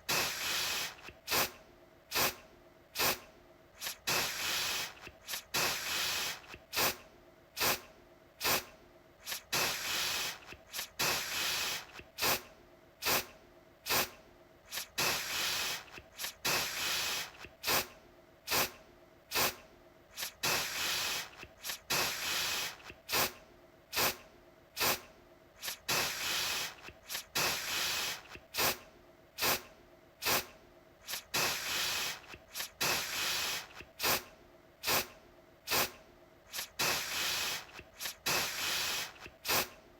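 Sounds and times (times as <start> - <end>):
aerosol can spraying: 0.1 - 2.4, 3.0 - 3.2, 3.8 - 7.0, 7.6 - 7.8, 8.4 - 13.3, 13.9 - 17.9, 18.5 - 24.2, 24.8 - 28.8, 29.4 - 35.1, 35.7 - 39.8.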